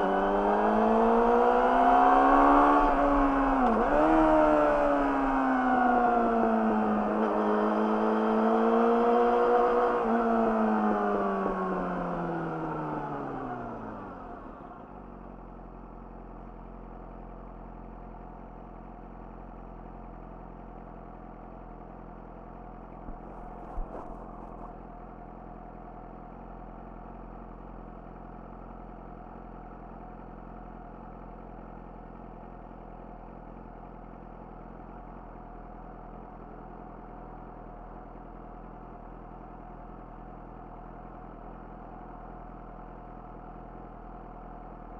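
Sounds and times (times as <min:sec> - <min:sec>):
motorcycle engine revs and idle: 0:00.0 - 0:44.9.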